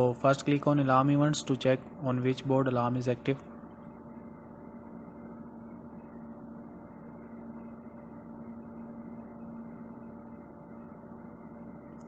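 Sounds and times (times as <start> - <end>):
steady low background hum: 0.0 - 12.0.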